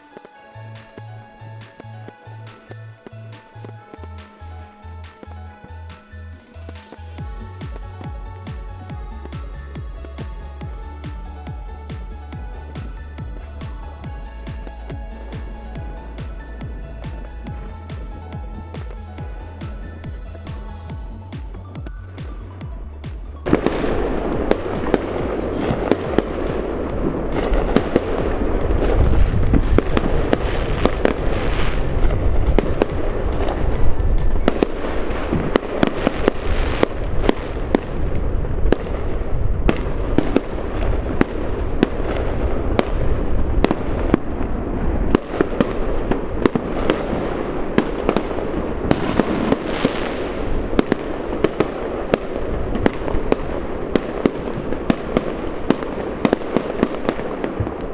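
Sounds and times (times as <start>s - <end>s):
fireworks cracking and popping: 0.0s - 57.9s.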